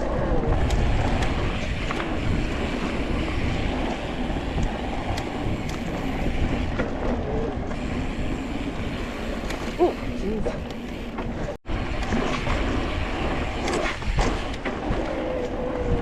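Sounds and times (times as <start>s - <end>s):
bike clicks and rattles: 0.0s - 16.0s
wind rush on microphone: 0.0s - 16.0s.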